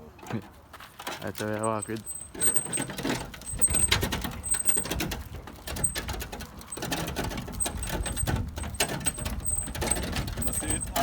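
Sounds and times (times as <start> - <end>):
rubble knocking and clattering: 0.8 - 11.0.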